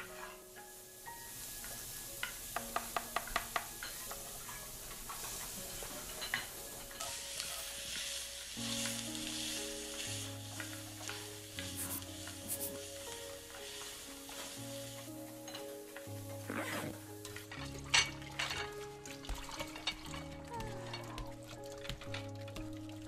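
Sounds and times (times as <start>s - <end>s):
food sizzling in a pan: 0.0s - 23.0s
gentle background music: 0.0s - 23.0s.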